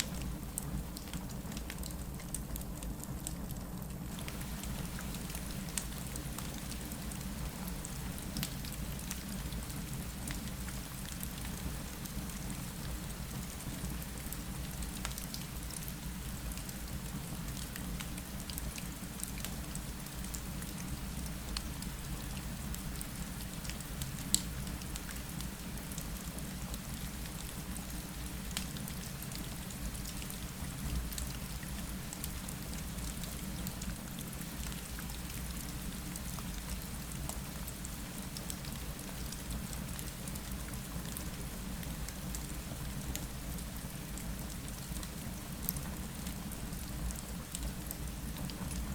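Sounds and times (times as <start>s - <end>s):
rain on a window: 0.0s - 48.9s.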